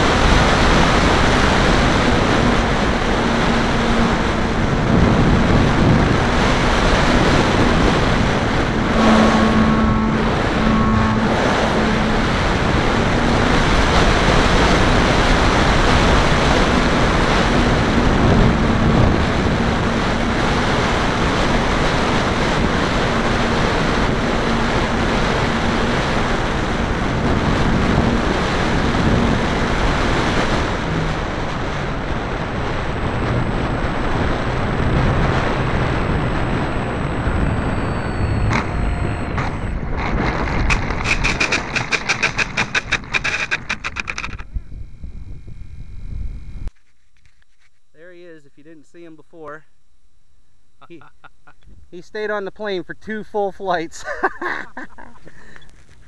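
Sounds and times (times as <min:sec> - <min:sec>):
wind rushing over microphone: 0:00.0 - 0:46.7
electric motor and propeller hum: 0:00.0 - 0:47.5.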